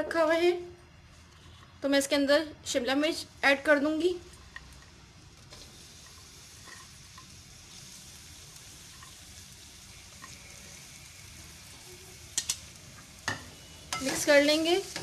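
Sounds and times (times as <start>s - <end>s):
peppers sizzling in oil: 2.7s - 15.0s.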